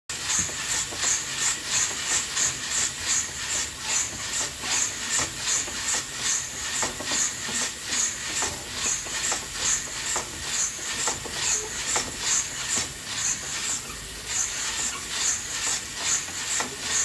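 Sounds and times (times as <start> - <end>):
coffee beans tumbling in roaster: 0.1 - 17.0.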